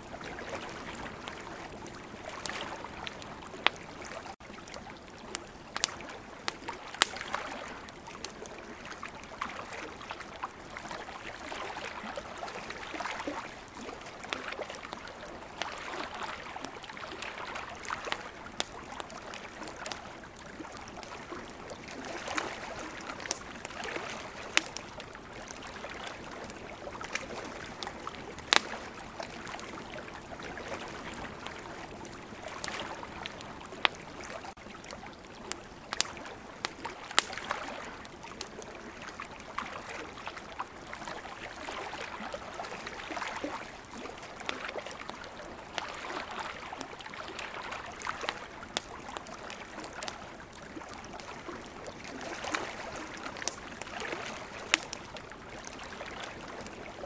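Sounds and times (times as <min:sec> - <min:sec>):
ocean waves: 0:00.0 - 0:04.4, 0:08.6 - 0:34.6, 0:38.9 - 0:56.9
campfire crackling and popping: 0:00.0 - 0:57.0.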